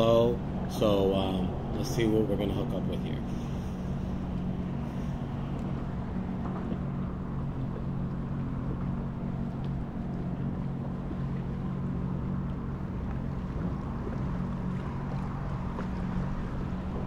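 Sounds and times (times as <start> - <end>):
low engine drone: 0.0 - 17.0
water noise: 0.0 - 17.0
wind: 0.0 - 17.0.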